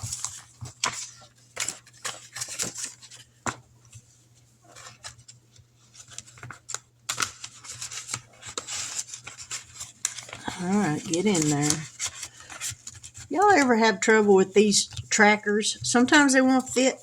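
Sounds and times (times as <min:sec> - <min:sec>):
paper rustling and sliding: 0:00.0 - 0:13.9.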